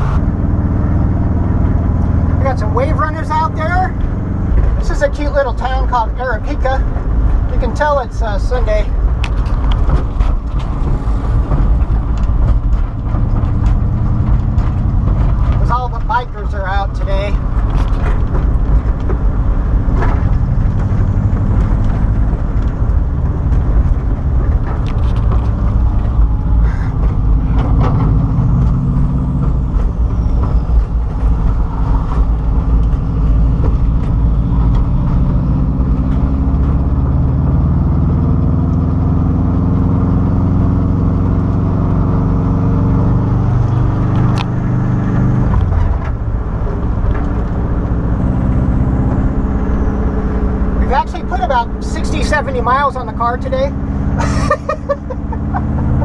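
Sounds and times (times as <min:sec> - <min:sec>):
engine running while driving: 0:00.0 - 0:56.0
road and wind noise: 0:00.0 - 0:56.0.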